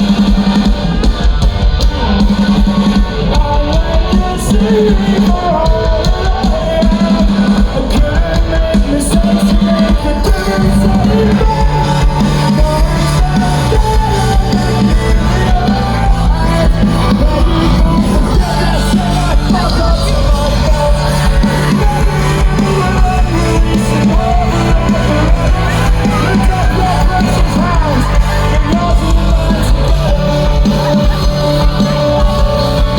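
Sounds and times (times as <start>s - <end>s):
punk band playing live: 0.0s - 32.9s.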